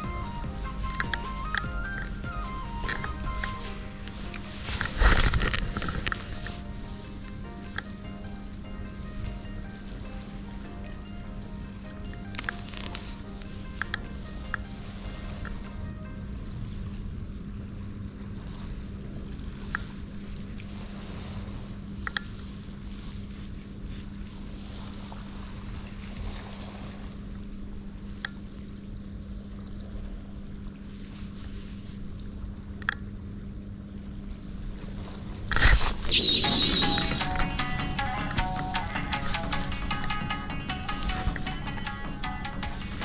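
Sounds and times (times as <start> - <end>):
wind: 0.0 - 43.0.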